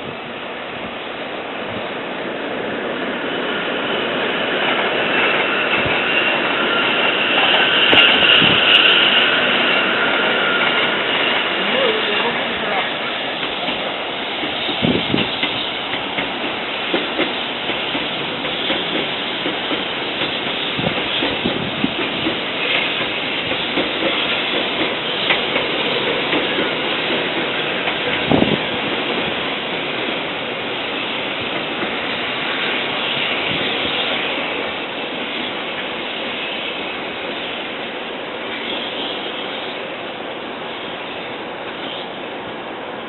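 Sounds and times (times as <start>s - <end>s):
train rumbling and hissing: 0.0s - 43.0s.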